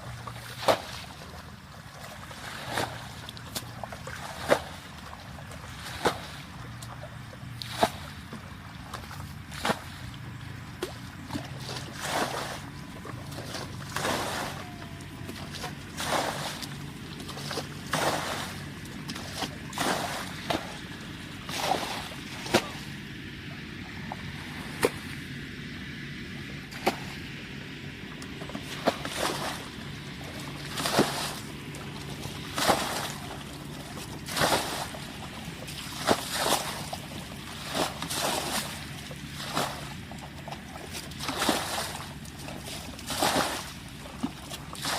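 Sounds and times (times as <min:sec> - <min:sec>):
low steady hum: 0:00.0 - 0:44.9
water splashing and sloshing: 0:00.0 - 0:44.9.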